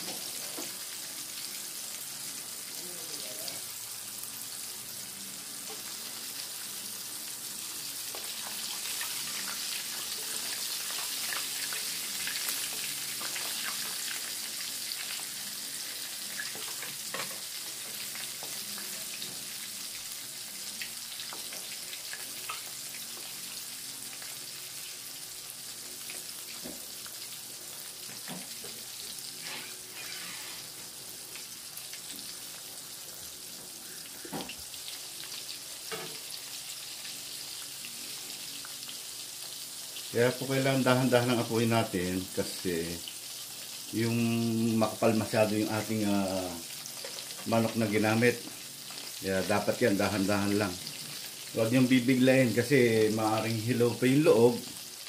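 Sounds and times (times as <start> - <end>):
chicken frying in oil: 0.0 - 55.0.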